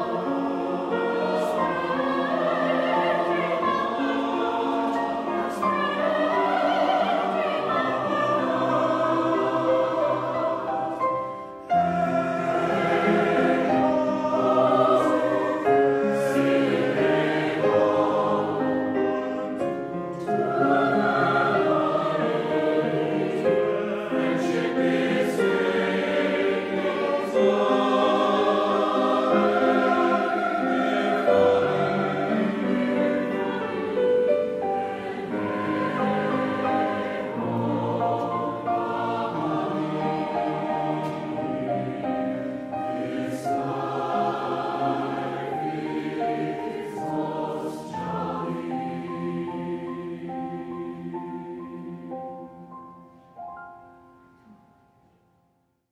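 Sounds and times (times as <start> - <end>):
mixed choir singing: 0.0 - 53.3.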